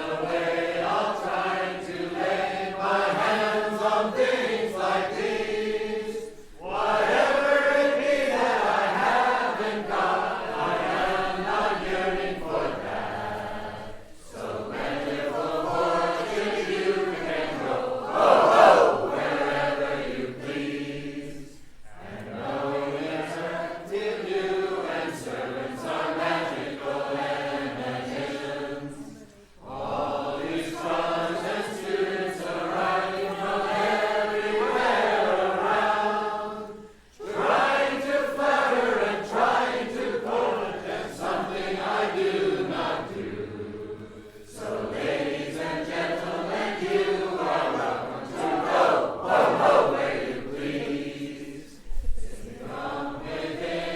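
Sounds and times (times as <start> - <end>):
voices chanting: 0.0 - 53.9.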